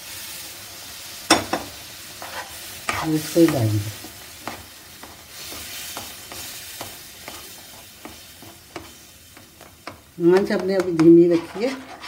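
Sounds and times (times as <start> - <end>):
soft sizzle: 0.0 - 12.0
metal spoon scraping a pan: 1.3 - 12.0.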